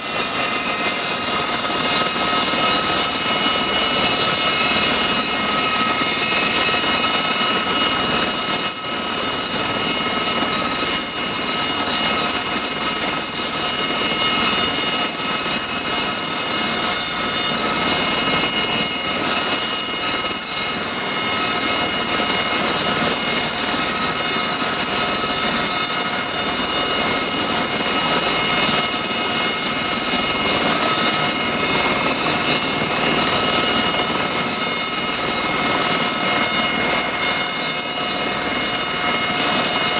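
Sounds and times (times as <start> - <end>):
helicopter rotor noise: 0.0 - 39.9
turbine whine: 0.0 - 39.9.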